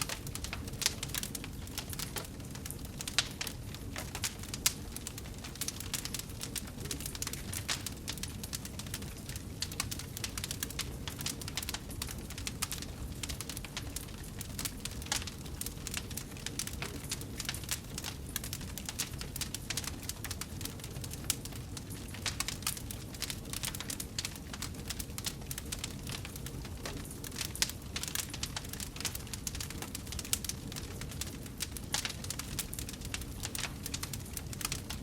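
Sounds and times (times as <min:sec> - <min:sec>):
low noise of flames: 0:00.0 - 0:35.0
wood fire crackling: 0:00.0 - 0:35.0.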